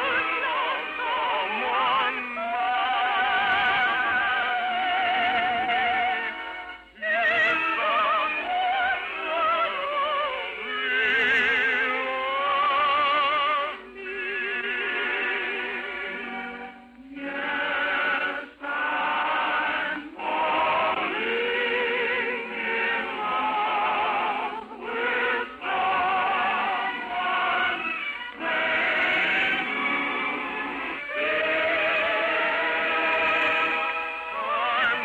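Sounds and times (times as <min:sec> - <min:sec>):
choir singing with vibrato: 0:00.0 - 0:35.0
orchestral accompaniment: 0:00.0 - 0:35.0.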